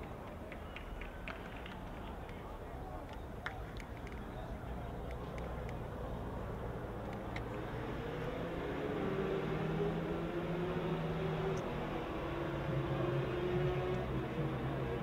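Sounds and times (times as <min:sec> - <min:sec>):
background noise: 0:00.0 - 0:15.0.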